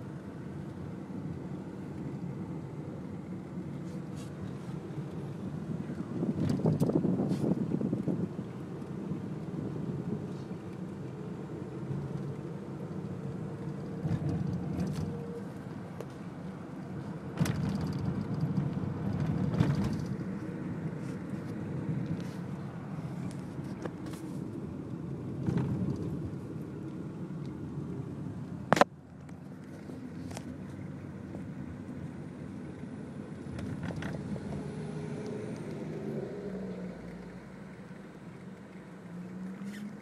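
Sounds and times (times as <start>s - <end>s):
road and engine noise: 0.0s - 40.0s.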